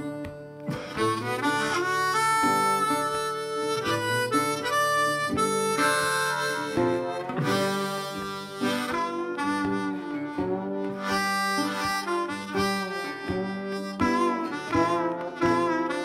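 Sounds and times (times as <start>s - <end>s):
harmonica melody: 0.0s - 16.0s.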